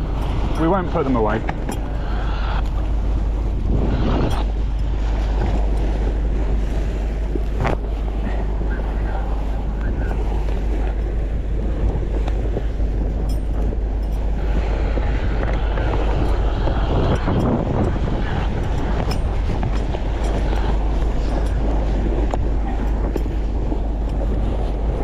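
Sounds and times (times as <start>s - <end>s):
sailboat motoring roar: 0.0s - 25.0s
wind noise on microphone: 0.0s - 25.0s.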